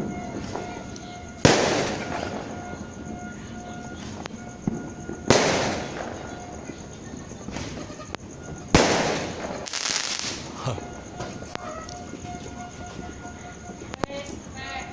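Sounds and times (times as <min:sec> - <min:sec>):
small fireworks pops: 0:00.0 - 0:03.0, 0:03.8 - 0:14.9
fireworks bangs: 0:00.0 - 0:14.9
fireworks crackling: 0:00.0 - 0:14.9.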